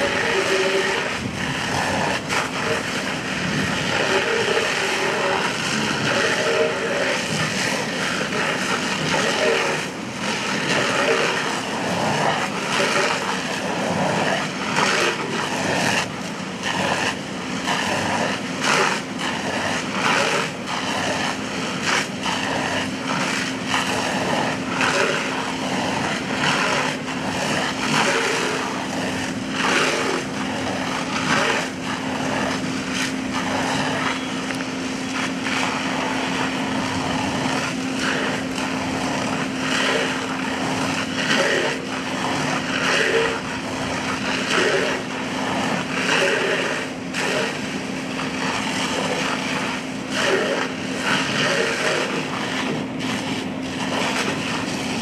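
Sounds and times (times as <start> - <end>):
engine running steadily: 0.0 - 55.0
fire hose spraying: 0.0 - 55.0.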